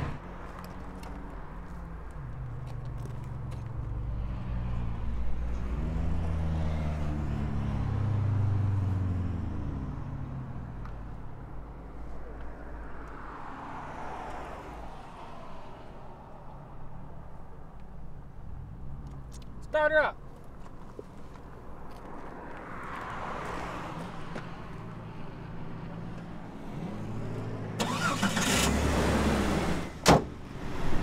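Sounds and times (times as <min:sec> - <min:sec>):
car engine passing by: 0:00.0 - 0:16.6, 0:21.9 - 0:31.0.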